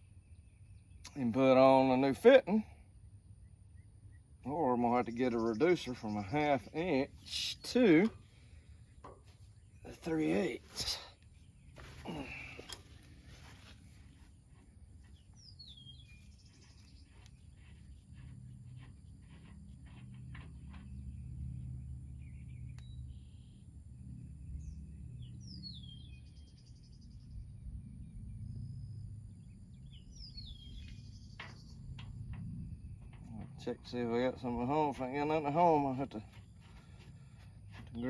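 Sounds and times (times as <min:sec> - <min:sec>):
low outdoor rumble: 0:00.0 - 0:38.0.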